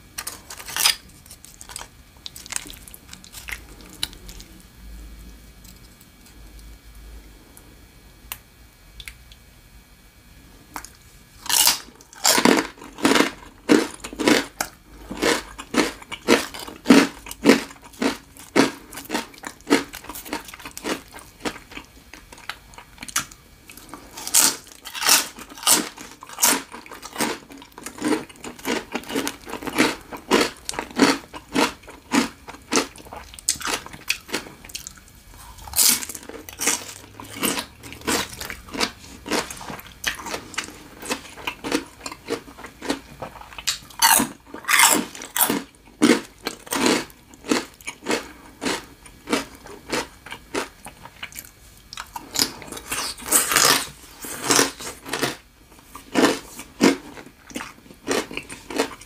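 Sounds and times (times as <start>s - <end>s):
crunching and chewing pork rinds: 0.0s - 7.7s, 10.6s - 59.0s.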